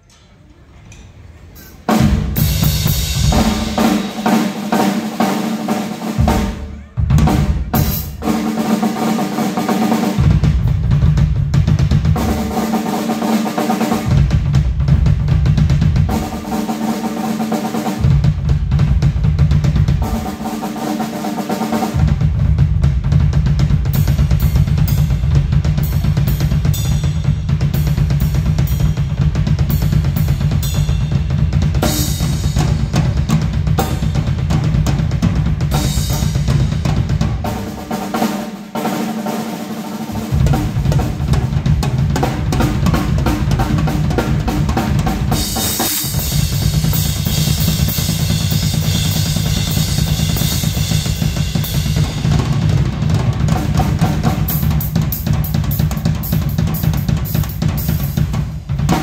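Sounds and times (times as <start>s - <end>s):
drum kit solo: 1.6s - 59.0s.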